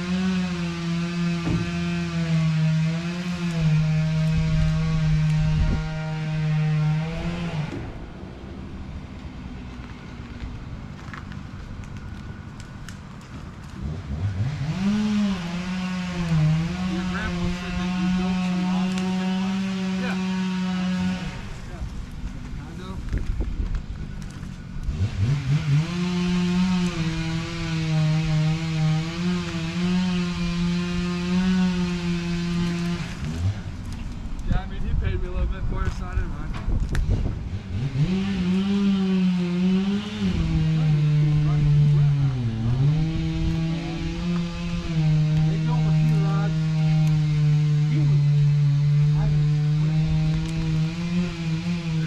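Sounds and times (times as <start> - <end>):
engine revving: 0.0 - 52.0.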